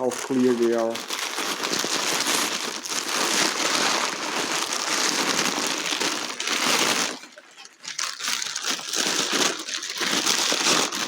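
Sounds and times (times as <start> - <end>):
paper being crumpled: 0.0 - 11.0.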